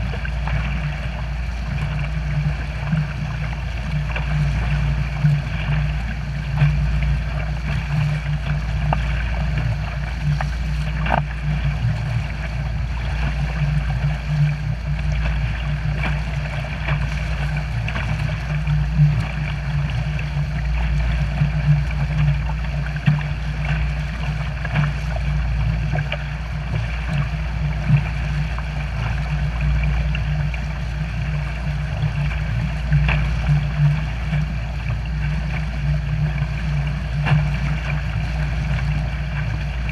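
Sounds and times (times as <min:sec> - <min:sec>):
outboard motor drone: 0:00.0 - 0:39.9
water rushing and splashing: 0:00.0 - 0:39.9.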